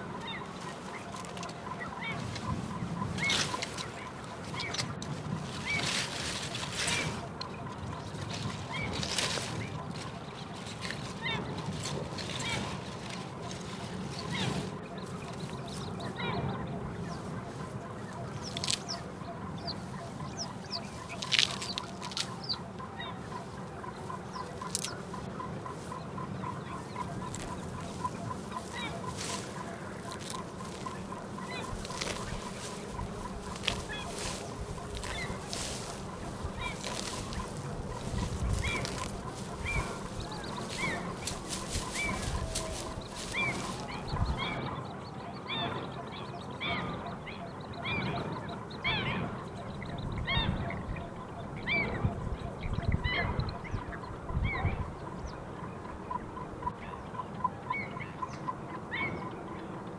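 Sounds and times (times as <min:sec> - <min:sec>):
domestic fowl calling: 0:00.0 - 0:59.9.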